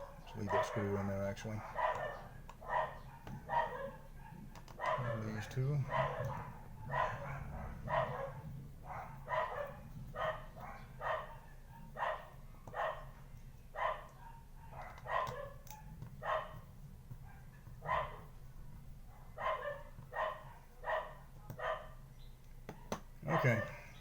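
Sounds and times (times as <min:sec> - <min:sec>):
dog barking: 0:00.0 - 0:18.4, 0:19.1 - 0:22.0, 0:22.7 - 0:24.0
steady low hum: 0:00.0 - 0:24.0.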